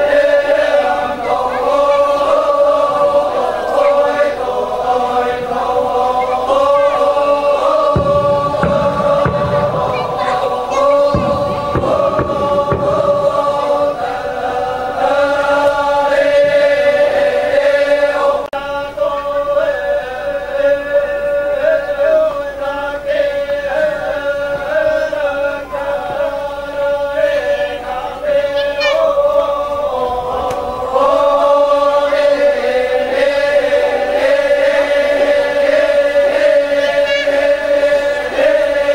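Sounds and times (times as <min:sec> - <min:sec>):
group of voices chanting: 0:00.0 - 0:38.9
low microphone rumble: 0:00.0 - 0:38.9.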